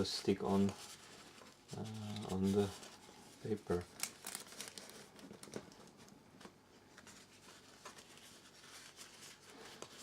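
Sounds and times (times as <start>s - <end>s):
baking paper rustling: 0.0s - 10.0s.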